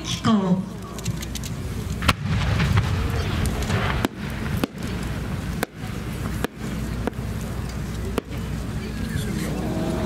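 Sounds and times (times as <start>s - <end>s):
firework cracks: 1.0s - 9.0s
low rumble: 1.5s - 10.0s.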